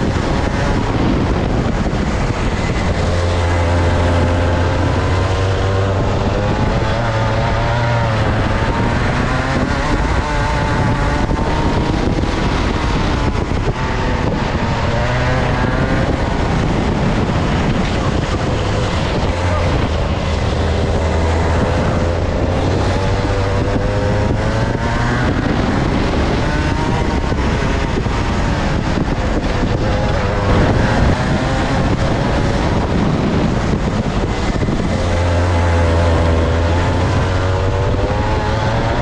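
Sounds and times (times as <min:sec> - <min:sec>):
kart engine revving: 0:00.0 - 0:39.0.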